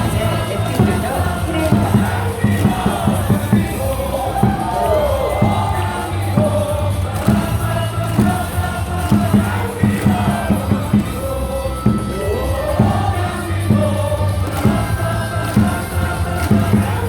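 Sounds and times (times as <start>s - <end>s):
cheer song over loudspeakers: 0.0s - 17.0s
crowd singing and chanting: 0.0s - 17.0s.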